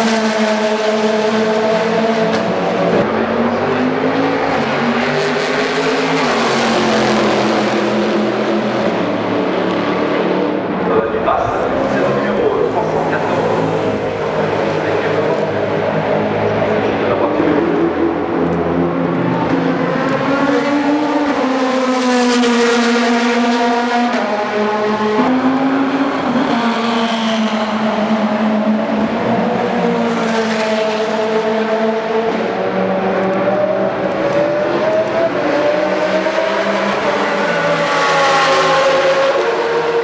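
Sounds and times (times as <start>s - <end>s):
race cars passing at high revs: 0.0s - 40.0s.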